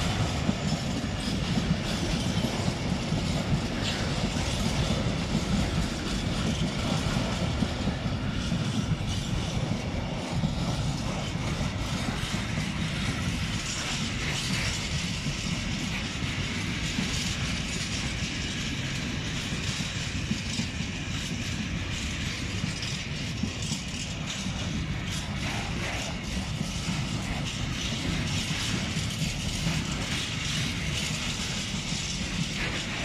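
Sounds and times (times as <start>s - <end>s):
hiss: 0.0s - 33.0s
train wheels rumbling on rails: 0.0s - 33.0s.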